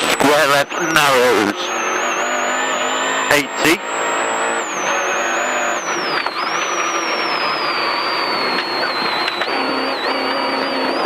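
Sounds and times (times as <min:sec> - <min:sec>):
rally car engine whining: 0:00.0 - 0:11.0.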